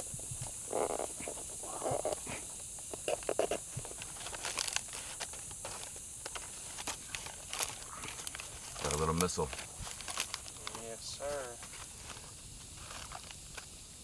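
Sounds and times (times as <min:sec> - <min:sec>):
high insect drone: 0:00.0 - 0:14.0
leaves rustling and crinkling: 0:00.0 - 0:14.0.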